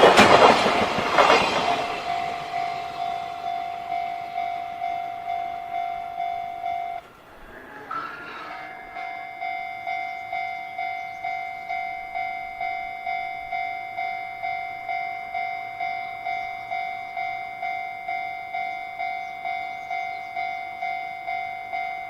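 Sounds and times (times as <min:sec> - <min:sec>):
level-crossing alarm bell: 0:01.4 - 0:22.0.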